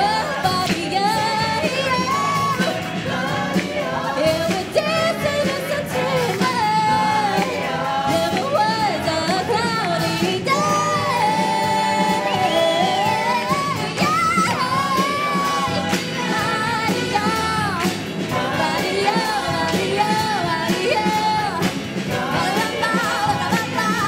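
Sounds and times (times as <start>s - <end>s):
amplified accompaniment with beat: 0.0s - 24.0s
ensemble singing pop: 0.0s - 24.0s.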